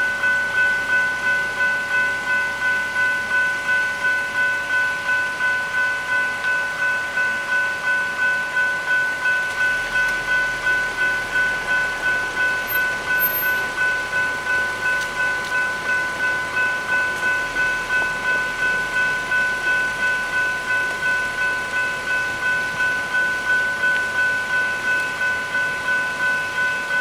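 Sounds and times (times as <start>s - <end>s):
level crossing bell dinging: 4.0s - 27.0s.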